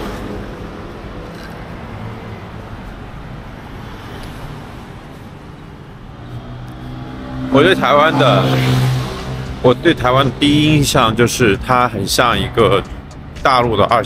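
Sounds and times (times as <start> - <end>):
passing vehicles rushing: 0.0 - 14.0.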